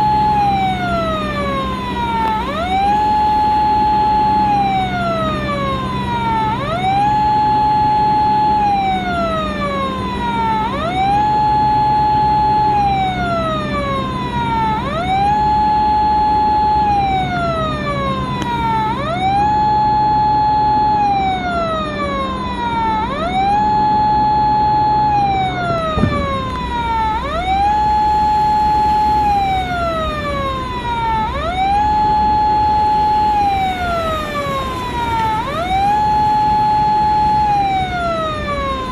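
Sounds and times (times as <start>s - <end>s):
low steady hum: 0.0s - 38.9s
police siren wailing: 0.0s - 38.9s.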